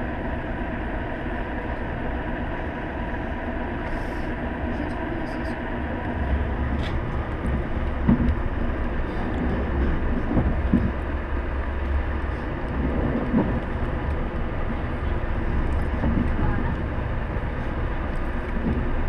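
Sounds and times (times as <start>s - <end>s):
train rumbling inside carriage: 0.0s - 19.0s.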